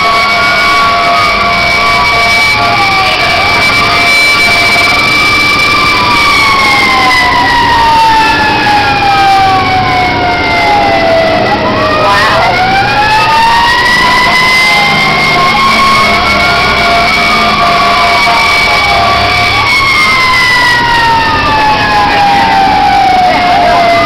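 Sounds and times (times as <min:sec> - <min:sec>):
truck engine and road noise: 0:00.0 - 0:24.0
wailing siren: 0:00.0 - 0:24.0.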